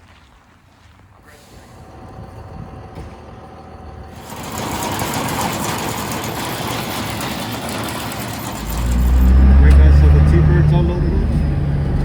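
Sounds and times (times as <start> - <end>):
vehicle engine running: 1.5 - 12.0.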